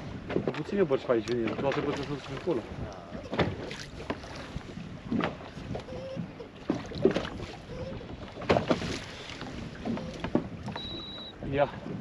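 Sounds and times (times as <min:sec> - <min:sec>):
knocks and handling in boat: 0:00.0 - 0:12.0.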